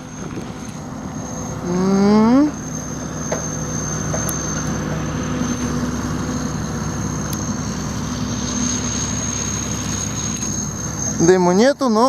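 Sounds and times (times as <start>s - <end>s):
high-pitched whine: 0.0s - 12.0s
tractor diesel engine running: 0.0s - 12.0s.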